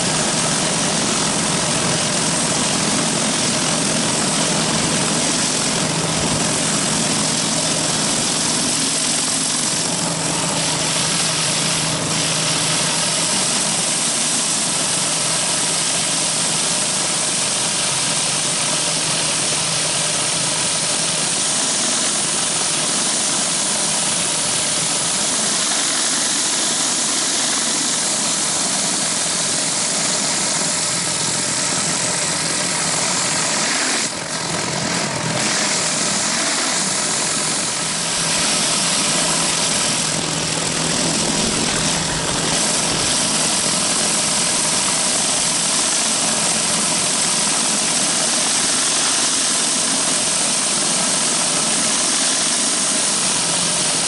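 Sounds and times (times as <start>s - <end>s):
water spray hissing on concrete: 0.0s - 26.8s, 35.4s - 54.0s
pump engine drone: 0.0s - 54.0s.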